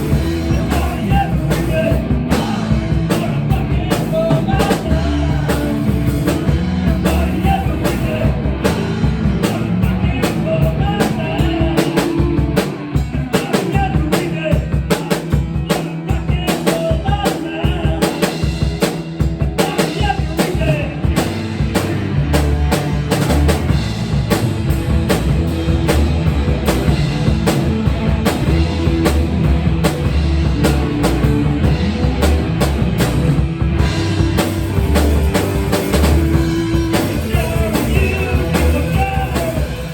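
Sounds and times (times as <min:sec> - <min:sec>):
low bass line: 0:00.0 - 0:13.4, 0:20.3 - 0:39.9
rock music with busy drums: 0:00.0 - 0:39.9.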